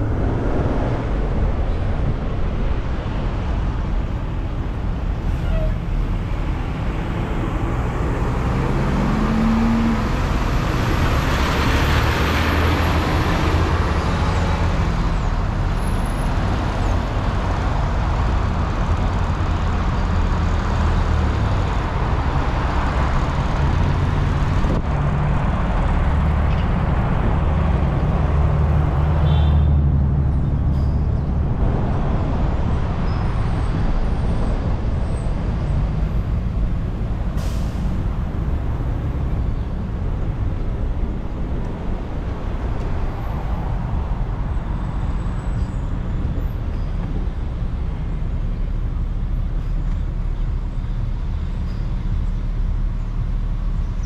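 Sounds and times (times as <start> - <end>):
car engine and road rumble: 0.0 - 54.0
vehicles passing: 0.0 - 54.0.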